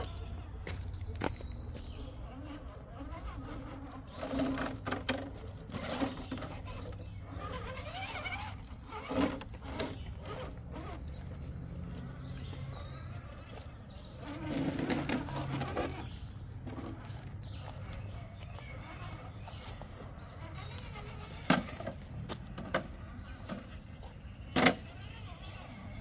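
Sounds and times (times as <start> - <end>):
rc car electric motors droning: 0.0 - 26.0.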